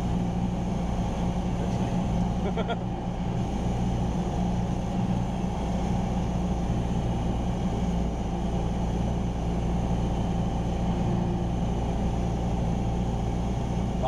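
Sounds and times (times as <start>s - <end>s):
airplane engine droning in flight: 0.0s - 14.0s.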